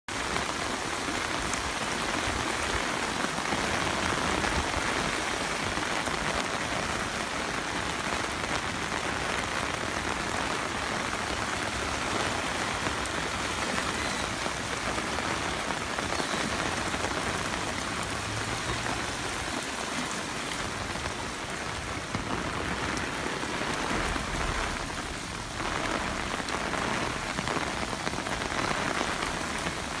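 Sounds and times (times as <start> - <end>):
rushing water: 0.1 - 30.0.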